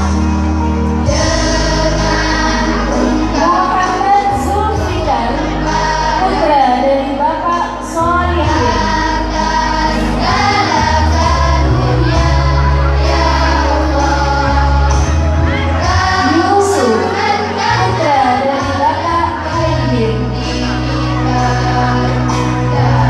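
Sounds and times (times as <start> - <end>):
children's choir singing a hymn: 0.0 - 23.0
instrumental accompaniment: 0.0 - 23.0.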